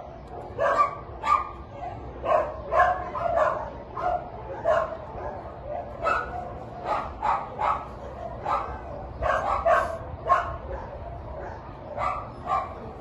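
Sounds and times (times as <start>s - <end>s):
dog barking: 0.3s - 13.0s.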